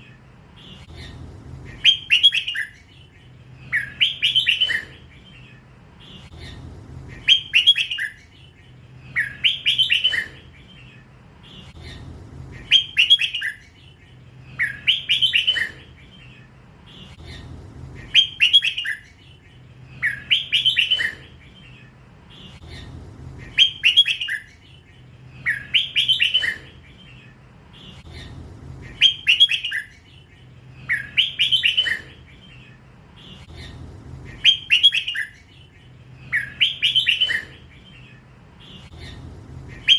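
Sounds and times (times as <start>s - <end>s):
bird singing warbled phrase: 0.0s - 39.9s
faint low hum: 0.0s - 39.9s.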